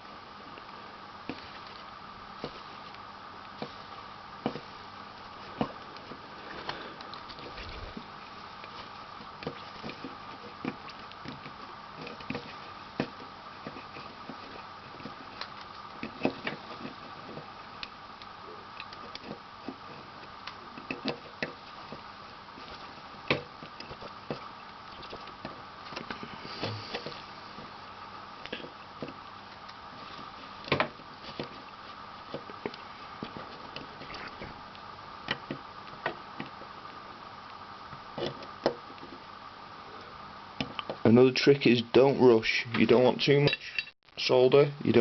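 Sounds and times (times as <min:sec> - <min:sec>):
faint steady hum: 0:00.0 - 0:45.0
soldering clicks and crackles: 0:00.6 - 0:39.3, 0:40.0 - 0:41.1.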